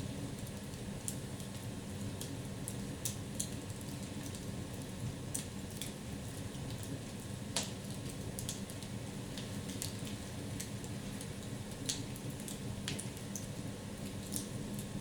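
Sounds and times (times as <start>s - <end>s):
wood fire crackling: 0.2s - 15.0s.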